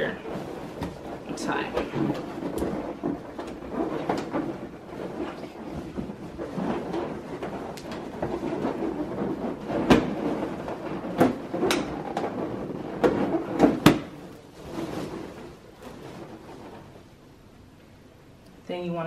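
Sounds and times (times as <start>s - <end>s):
balloons rubbing together: 0.0s - 17.2s.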